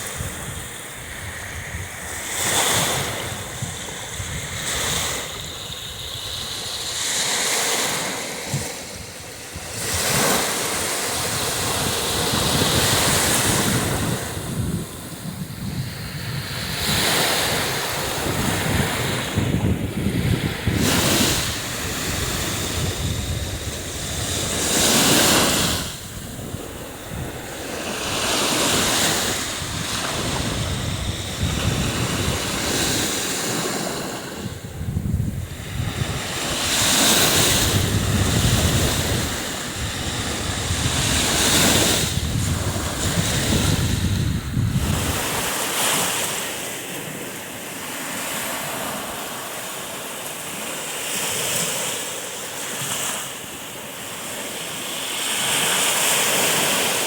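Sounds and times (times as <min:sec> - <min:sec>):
wind buffeting microphone: 0:00.0 - 0:46.0
surf breaking on shore: 0:00.0 - 0:57.0.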